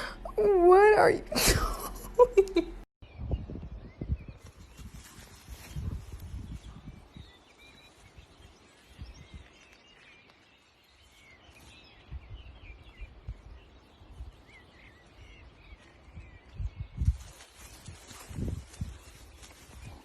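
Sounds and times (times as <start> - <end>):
small birds chirping: 2.6 - 20.0.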